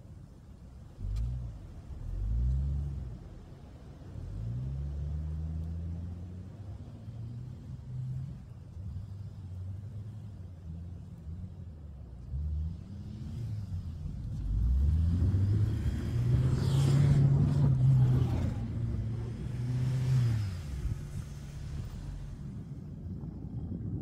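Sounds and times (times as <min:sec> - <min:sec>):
van engine revving: 0:01.0 - 0:23.5.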